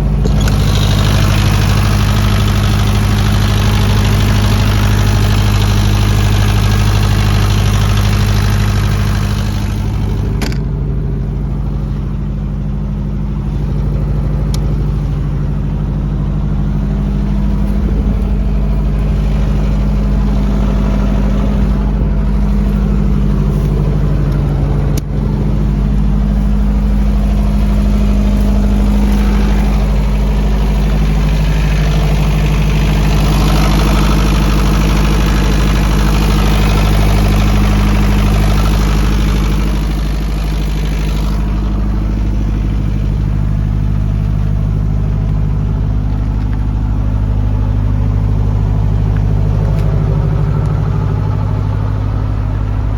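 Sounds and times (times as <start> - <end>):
diesel generator engine running: 0.0 - 52.9
low hum: 0.0 - 52.9.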